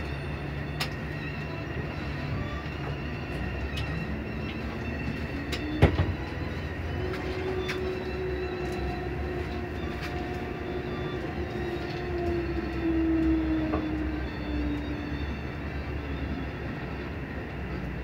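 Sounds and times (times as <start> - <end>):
bus running noise with whine: 0.0 - 18.0.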